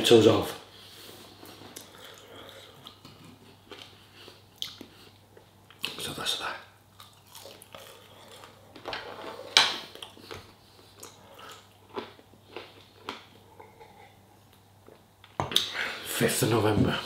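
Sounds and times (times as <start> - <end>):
man chewing food: 0.7 - 6.0, 6.9 - 15.7.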